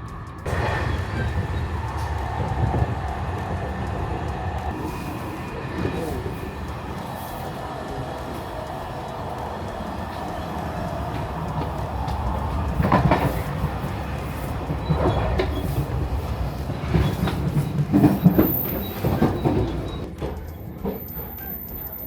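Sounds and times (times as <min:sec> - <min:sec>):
train rumbling on rails: 0:00.0 - 0:22.0
wheels knocking on rails: 0:00.0 - 0:22.0.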